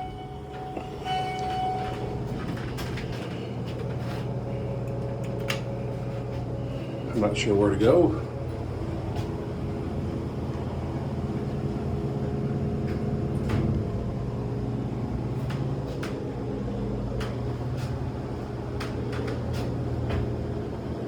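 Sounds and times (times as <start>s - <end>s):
elevator hum: 0.0s - 21.0s.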